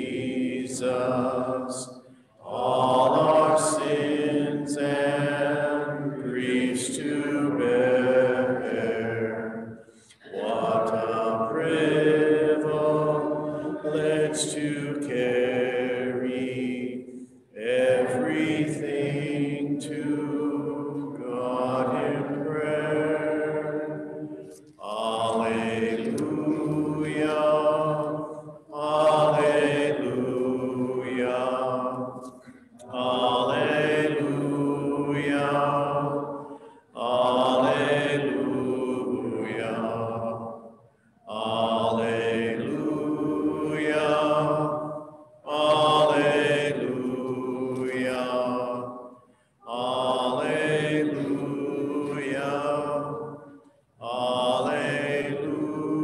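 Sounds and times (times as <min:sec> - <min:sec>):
person singing slow chant: 0:00.0 - 0:56.0.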